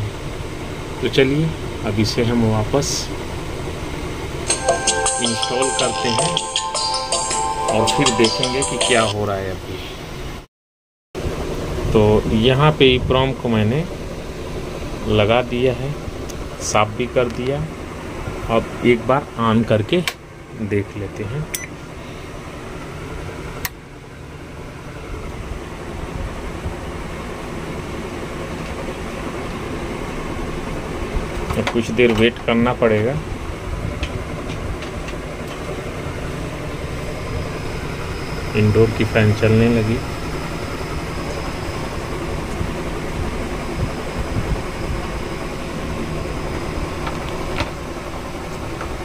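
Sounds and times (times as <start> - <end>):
fan motor whirring: 0.0 - 5.8, 11.2 - 49.0
low mechanical hum: 0.0 - 10.5, 11.2 - 49.0.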